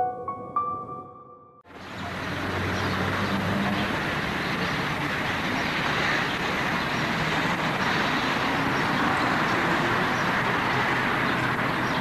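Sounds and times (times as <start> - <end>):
steady rushing outdoor noise: 1.7 - 12.0.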